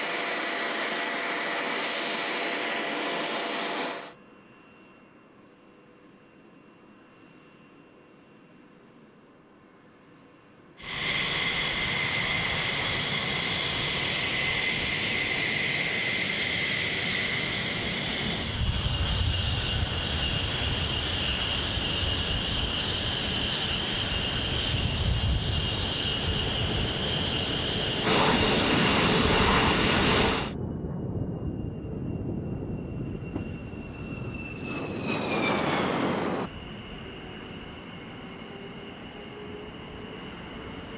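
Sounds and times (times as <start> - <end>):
jet engine whine and rumble: 0.0 - 40.9.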